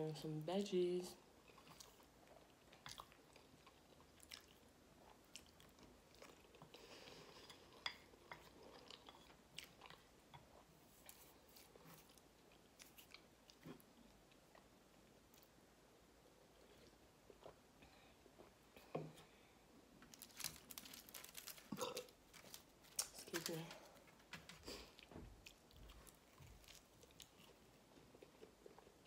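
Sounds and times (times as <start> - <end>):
faint chewing: 1.4 - 15.6, 20.0 - 29.0.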